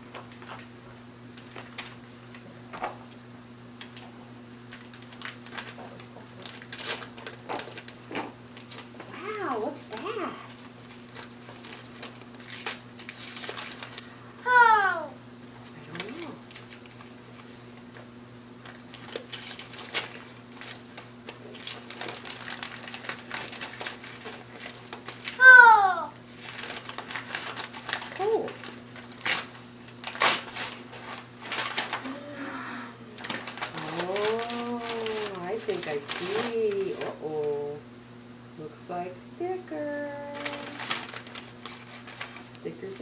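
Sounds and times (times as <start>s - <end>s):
steady low hum: 0.0s - 43.0s
wrapping paper crinkling and tearing: 1.4s - 2.4s, 4.7s - 14.8s, 15.5s - 32.4s, 33.1s - 37.6s, 40.1s - 42.6s.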